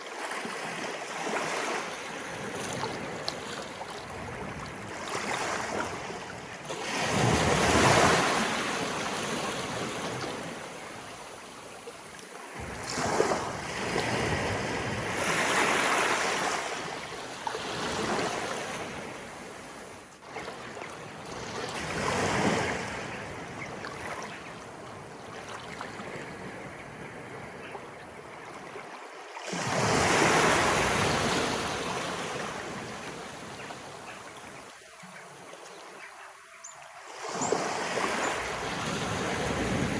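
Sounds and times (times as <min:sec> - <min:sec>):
sea waves breaking: 0:00.0 - 0:27.6, 0:28.8 - 0:35.5, 0:37.1 - 0:39.9.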